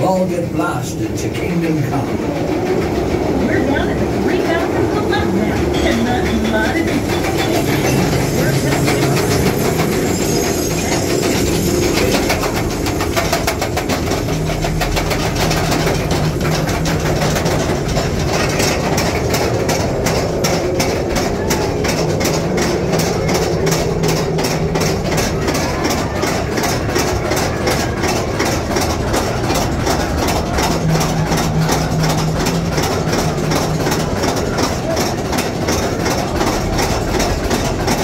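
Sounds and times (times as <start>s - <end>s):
rapid even clicking: 0.0s - 38.0s
train cars rumbling in tunnel: 0.0s - 38.0s.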